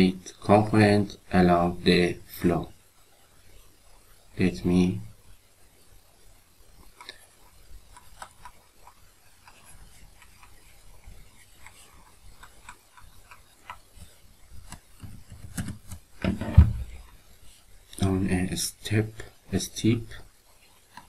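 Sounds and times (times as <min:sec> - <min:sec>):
stylus scratching on tablet: 0:00.0 - 0:18.3, 0:19.7 - 0:21.0.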